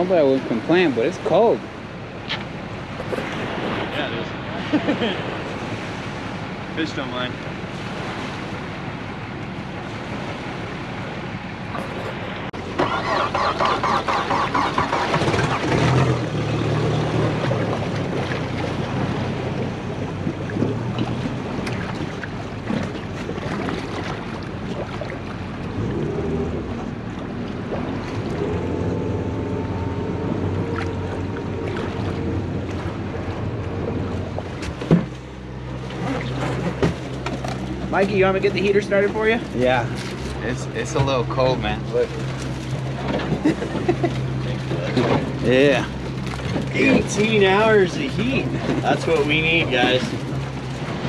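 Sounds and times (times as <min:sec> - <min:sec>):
boat engine cranking and idling: 0:05.2 - 0:51.0.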